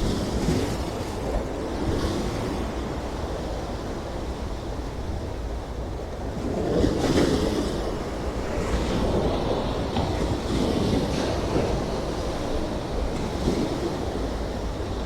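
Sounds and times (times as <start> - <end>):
sea waves washing in: 0.0 - 15.0
wind rumble on microphone: 0.0 - 15.0.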